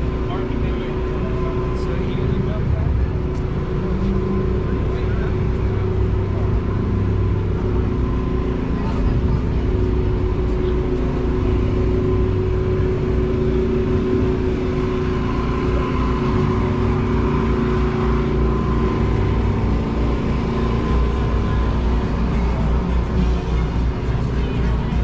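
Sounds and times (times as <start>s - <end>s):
car engine running steadily: 0.0s - 25.0s.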